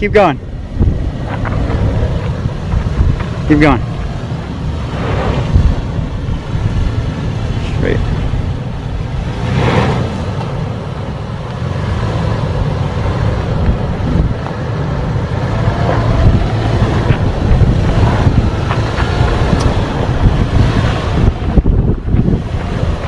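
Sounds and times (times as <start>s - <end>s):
suv engine running at low speed: 0.0s - 23.0s
wind rumbling on microphone: 0.0s - 23.0s.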